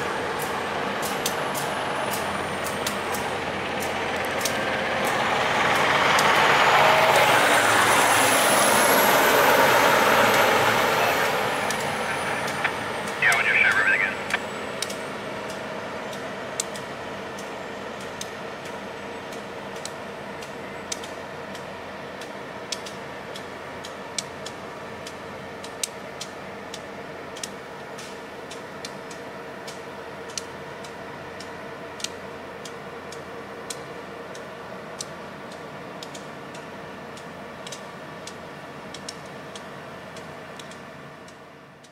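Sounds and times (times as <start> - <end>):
train mechanical hum: 0.0 - 41.9.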